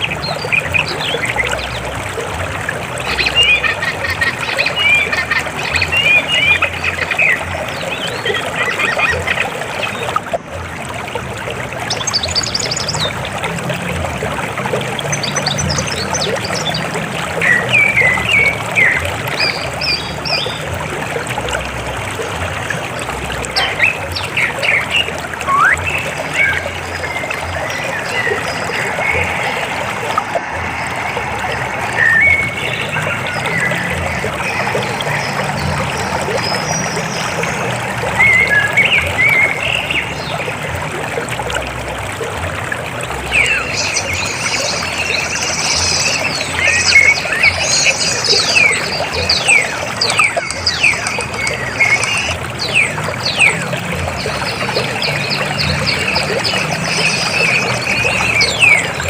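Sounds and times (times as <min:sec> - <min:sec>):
birds chirping: 0:00.0 - 0:10.4, 0:14.6 - 0:40.8, 0:43.1 - 0:59.0
river water flowing: 0:00.0 - 0:59.0.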